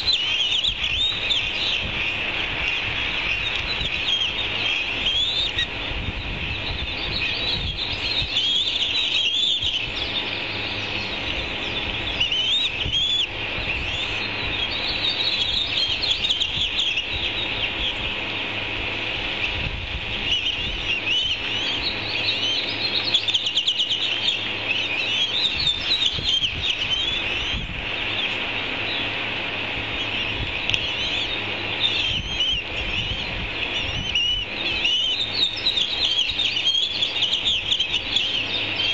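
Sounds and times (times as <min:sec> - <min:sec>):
chick's high-pitched begging chirps: 0:00.0 - 0:38.9.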